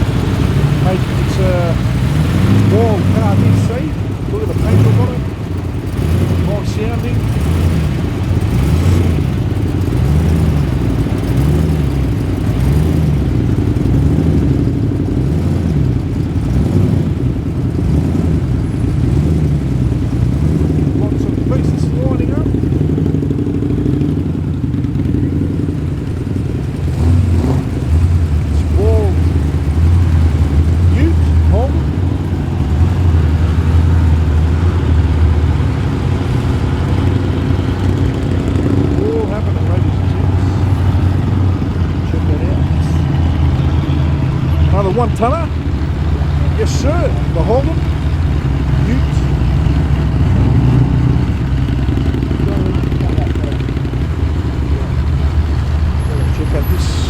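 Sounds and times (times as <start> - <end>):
car engine rumbling at low revs: 0.0 - 57.0.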